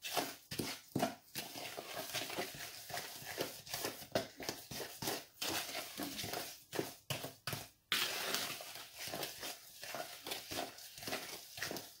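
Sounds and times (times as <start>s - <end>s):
gritty paste stirred in a bowl: 0.0s - 12.0s.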